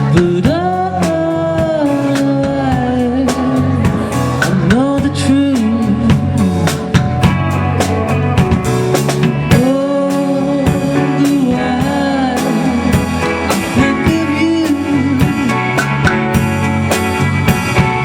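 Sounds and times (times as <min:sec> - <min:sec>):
drum kit beat: 0:00.0 - 0:18.0
electric guitars: 0:00.0 - 0:18.0.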